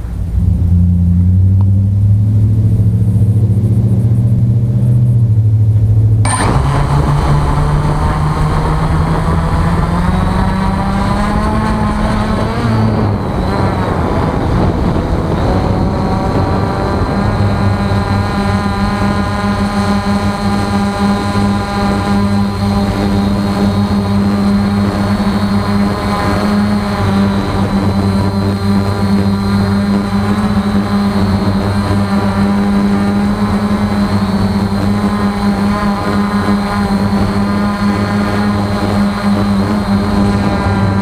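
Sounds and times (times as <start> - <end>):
low steady hum: 0.0 - 41.0
electric motors whining: 6.2 - 41.0.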